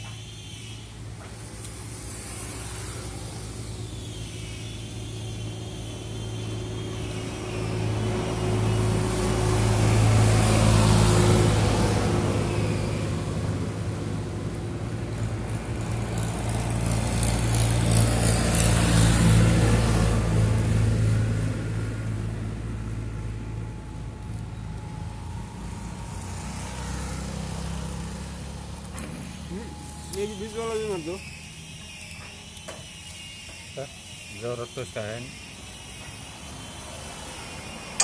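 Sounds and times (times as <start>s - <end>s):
traffic passing by: 0.0s - 38.0s
vehicle engine humming: 0.0s - 38.0s.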